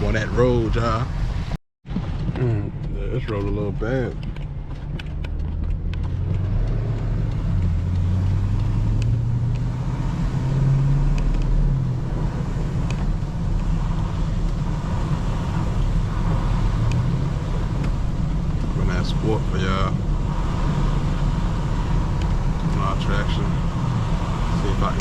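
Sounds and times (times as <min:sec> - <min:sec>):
car engine accelerating: 0:00.0 - 0:25.0
tyre and road noise: 0:00.0 - 0:25.0.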